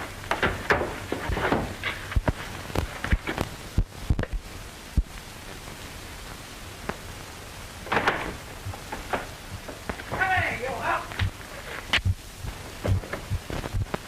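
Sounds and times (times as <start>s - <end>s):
film soundtrack hiss: 0.0s - 14.0s.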